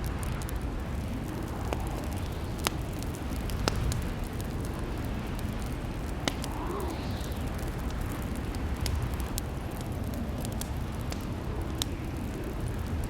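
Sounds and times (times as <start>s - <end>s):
fireplace crackling: 0.0s - 13.0s.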